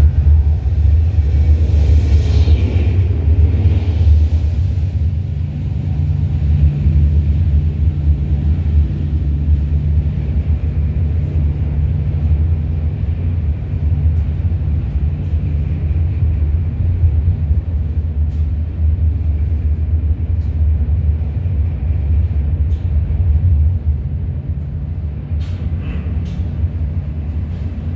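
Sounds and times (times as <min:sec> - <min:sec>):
constant low hum: 0:00.0 - 0:27.9
freight train rumbling: 0:00.0 - 0:27.9.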